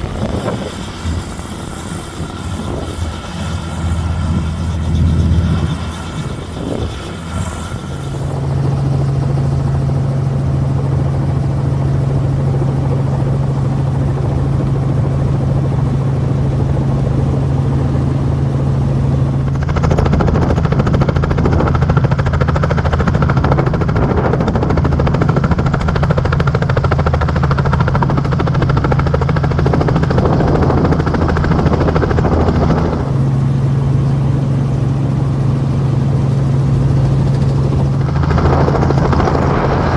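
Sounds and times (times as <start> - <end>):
helicopter engine humming: 0.0 - 39.9.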